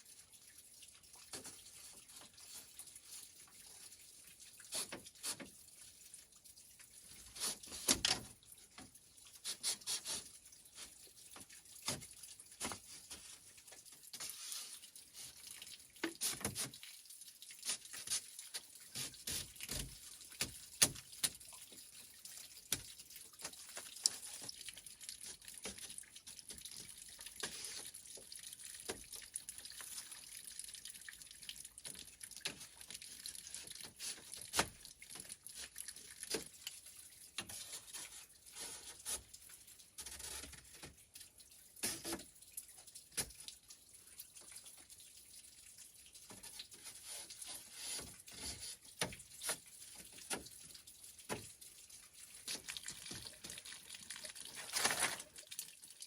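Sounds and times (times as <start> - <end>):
water running in a sink: 0.0 - 56.0.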